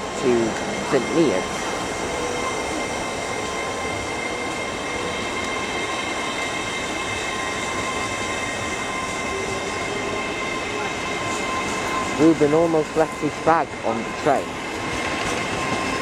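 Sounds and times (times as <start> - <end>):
high train whine: 0.0 - 16.0
train wheels rumbling on rail: 0.0 - 16.0.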